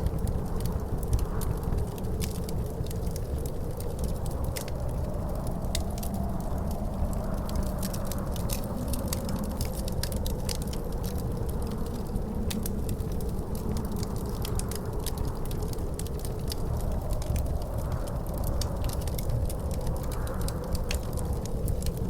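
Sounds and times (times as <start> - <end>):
low wind rumble: 0.0 - 22.0
wood fire crackling and popping: 0.0 - 22.0.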